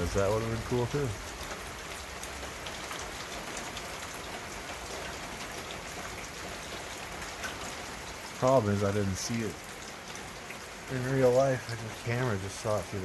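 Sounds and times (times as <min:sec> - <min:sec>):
raindrops pattering: 0:00.0 - 0:13.0.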